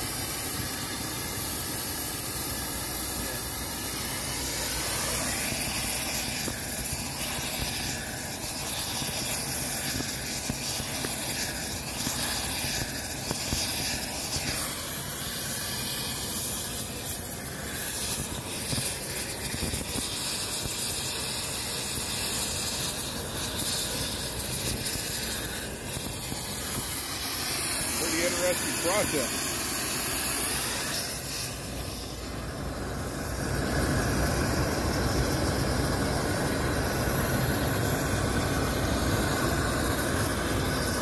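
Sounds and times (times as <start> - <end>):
gas torch hissing: 0.0 - 41.0.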